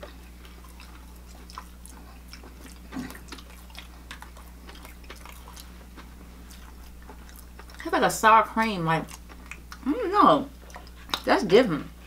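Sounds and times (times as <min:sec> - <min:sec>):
wet chewing and mouth clicks: 0:00.0 - 0:11.5
steady low hum: 0:00.0 - 0:12.0.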